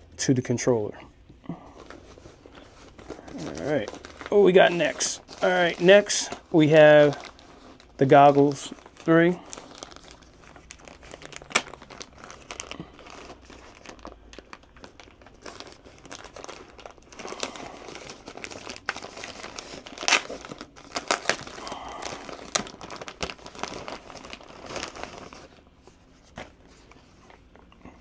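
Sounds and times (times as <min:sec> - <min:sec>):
plastic bag crinkling: 0:01.6 - 0:28.0.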